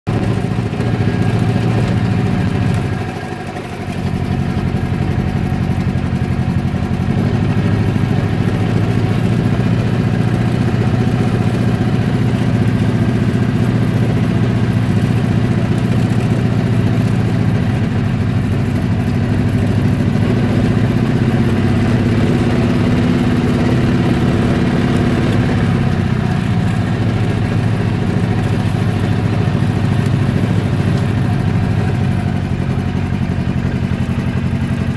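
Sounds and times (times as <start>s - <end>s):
vehicle engine running at low speed: 0.1s - 34.9s.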